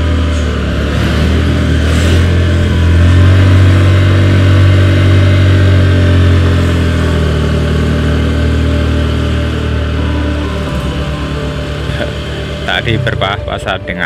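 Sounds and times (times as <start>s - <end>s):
motorcycle engine humming: 0.0s - 14.0s.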